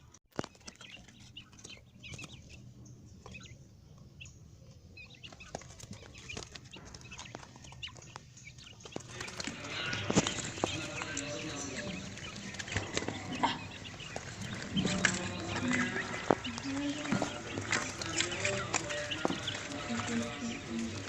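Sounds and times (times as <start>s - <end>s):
quail clicks and chirps: 0.4s - 21.0s.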